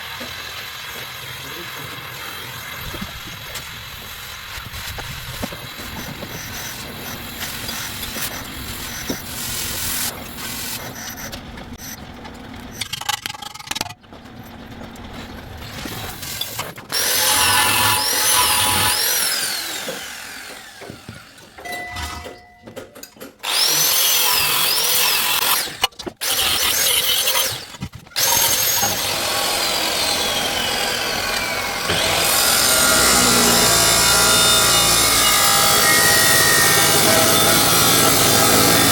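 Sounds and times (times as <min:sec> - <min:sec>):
power tools whining: 0:00.0 - 0:12.8, 0:14.1 - 0:22.3, 0:23.2 - 0:38.9.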